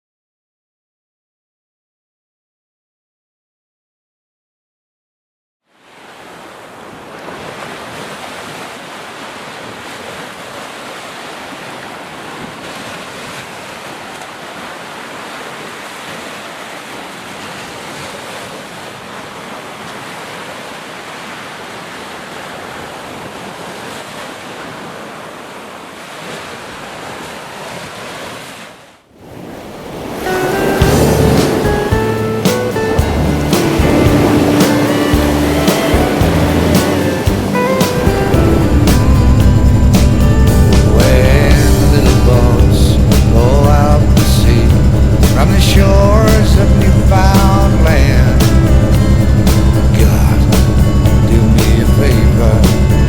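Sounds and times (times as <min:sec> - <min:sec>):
wind: 0:05.6 - 0:53.0
waves washing: 0:05.8 - 0:53.0.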